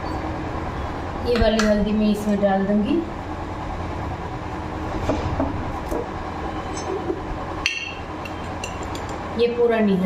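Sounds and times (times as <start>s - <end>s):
electric fan hum: 0.0s - 10.0s.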